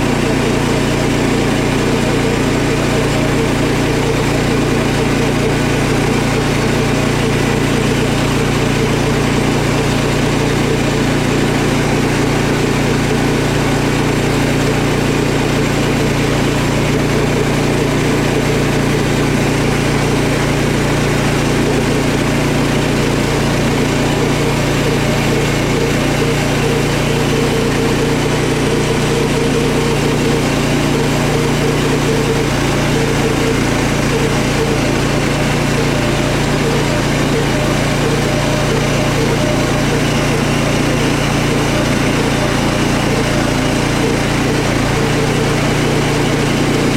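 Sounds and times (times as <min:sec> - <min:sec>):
sawmill engine running: 0:00.0 - 0:46.9.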